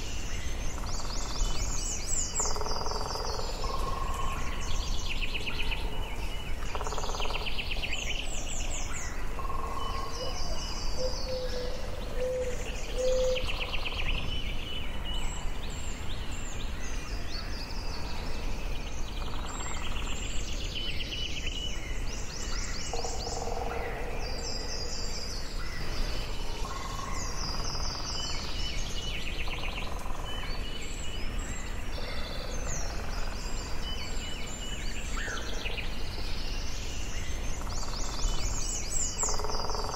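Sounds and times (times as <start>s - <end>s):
birds singing and calling: 0.0s - 39.9s
steady background hiss: 0.0s - 39.9s.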